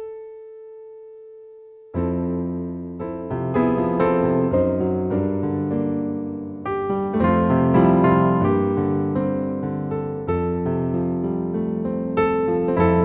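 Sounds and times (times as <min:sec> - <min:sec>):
piano christmas tune: 0:00.0 - 0:13.0.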